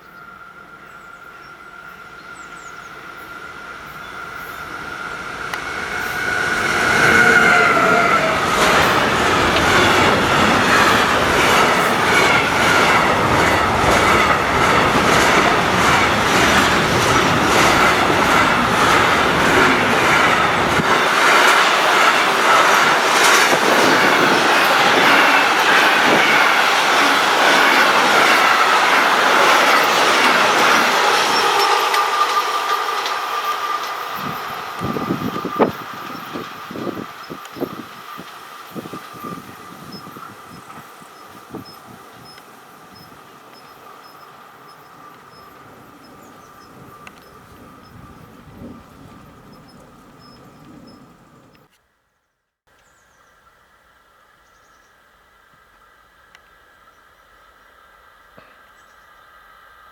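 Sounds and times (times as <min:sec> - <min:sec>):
train wheels clicking over rails: 0:02.5 - 0:51.7.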